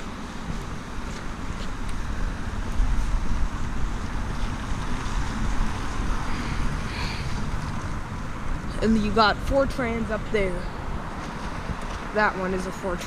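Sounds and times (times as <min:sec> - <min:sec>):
street traffic rumble: 0:00.0 - 0:13.0
wind buffeting microphone: 0:00.0 - 0:13.0.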